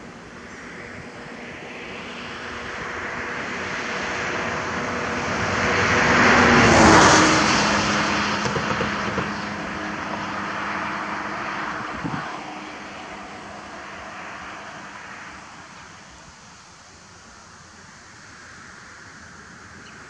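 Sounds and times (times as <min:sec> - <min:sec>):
vehicle passing by: 0:00.0 - 0:17.4.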